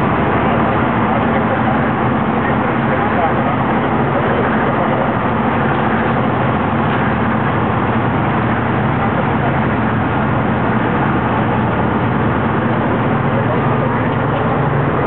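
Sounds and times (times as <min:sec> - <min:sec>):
constant rushing noise: 0:00.0 - 0:15.0
engine drone: 0:00.0 - 0:15.0.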